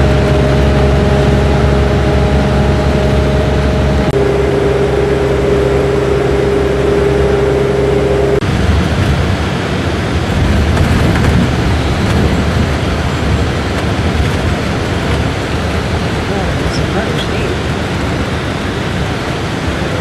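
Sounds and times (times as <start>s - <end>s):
road rumble: 0.0s - 20.0s
vehicle engine hum: 0.0s - 20.0s.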